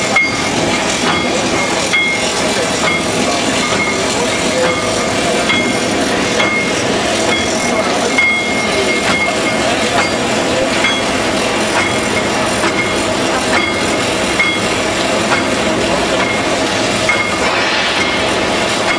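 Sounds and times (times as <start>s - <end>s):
machine clattering: 0.0s - 18.9s.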